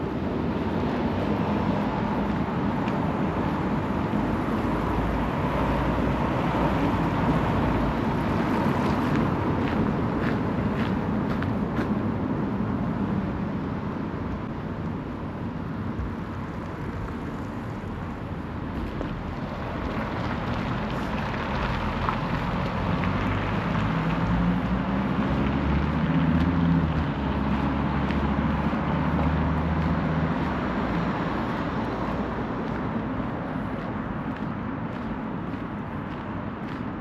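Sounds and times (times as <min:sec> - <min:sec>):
vehicle engine hum: 0:00.0 - 0:37.0
vehicles passing: 0:00.0 - 0:37.0.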